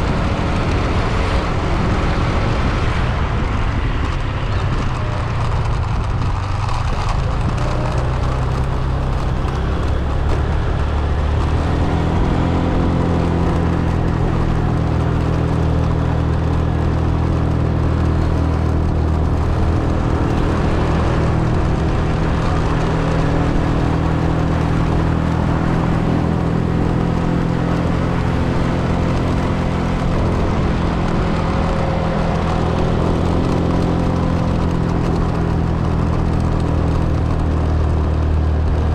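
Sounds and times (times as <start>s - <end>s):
car engine running: 0.0s - 38.9s
road noise: 0.0s - 38.9s.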